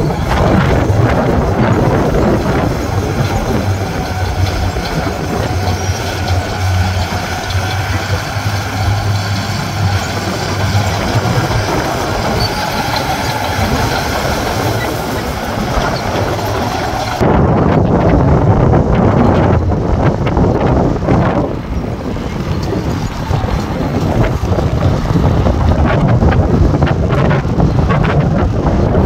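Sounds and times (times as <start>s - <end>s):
diesel engine running steadily: 0.0s - 29.0s.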